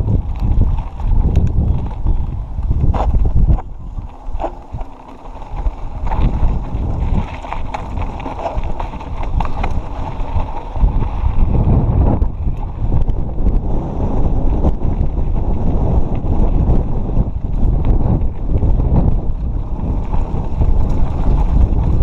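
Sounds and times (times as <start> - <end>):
bike clicks and rattles: 0.0 - 22.0
tyres crunching on dirt: 0.0 - 22.0
wind buffeting microphone: 0.0 - 22.0.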